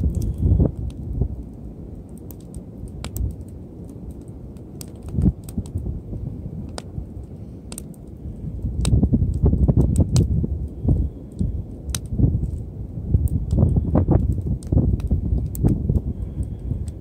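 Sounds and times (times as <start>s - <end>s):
low rumble: 0.0s - 2.0s, 2.7s - 17.0s
campfire crackling and popping: 0.0s - 17.0s.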